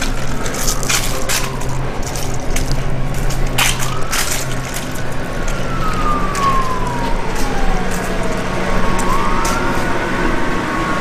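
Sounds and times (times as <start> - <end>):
low steady hum: 0.0 - 11.0
police siren wailing: 0.0 - 11.0.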